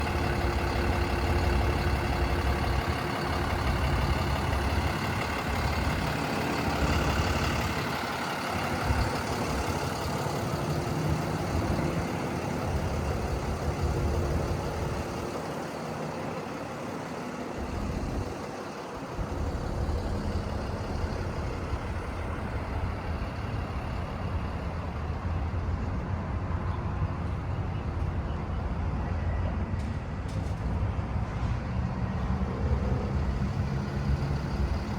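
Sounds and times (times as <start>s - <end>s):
truck diesel engine rumbling: 0.0s - 34.9s.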